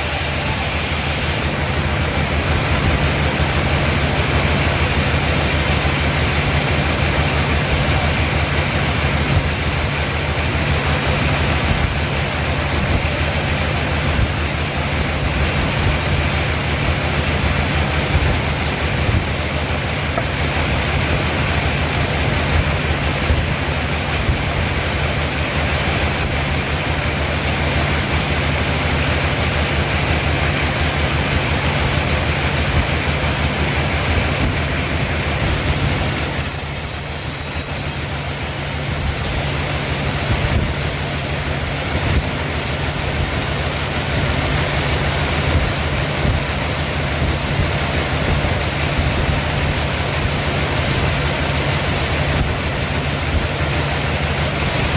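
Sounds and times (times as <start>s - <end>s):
sawmill machinery droning: 0.0s - 54.9s.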